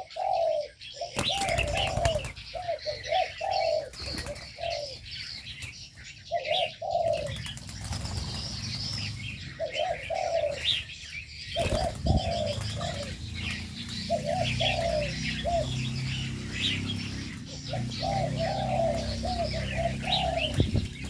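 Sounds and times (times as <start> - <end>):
doves cooing: 0.0 - 21.0
small birds chirping: 0.0 - 21.0.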